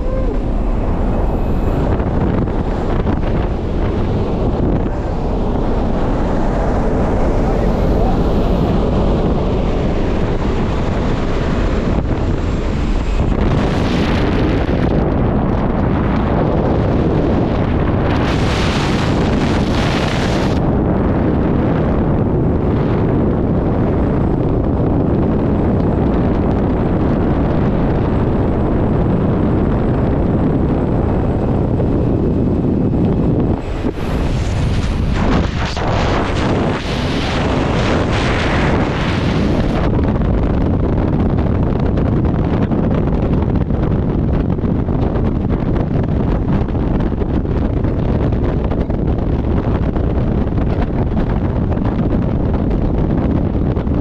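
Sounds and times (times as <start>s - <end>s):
propeller plane engine: 0.0s - 54.0s
wind buffeting microphone: 0.0s - 54.0s.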